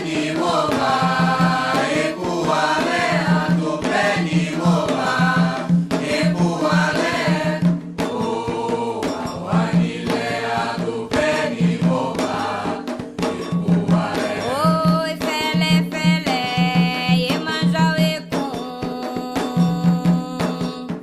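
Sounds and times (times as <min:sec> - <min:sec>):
drums steady beat: 0:00.0 - 0:21.0
voices singing: 0:00.0 - 0:21.0.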